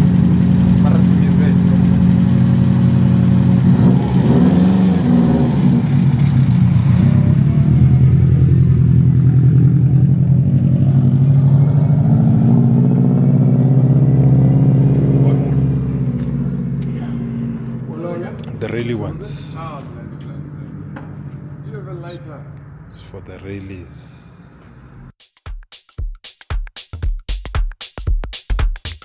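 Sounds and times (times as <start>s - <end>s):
car engine running: 0.0s - 25.1s.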